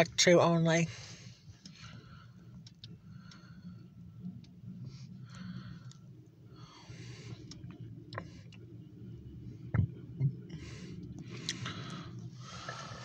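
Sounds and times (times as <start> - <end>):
car cabin low hum: 0.0 - 13.0.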